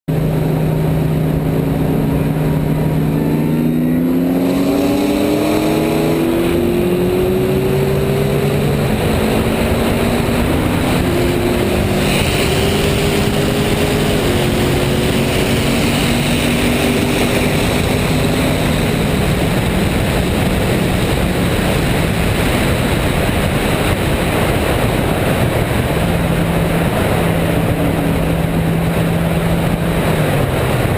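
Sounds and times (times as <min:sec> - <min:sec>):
car engines racing: 0:00.1 - 0:30.9
wind and road noise: 0:00.1 - 0:30.9.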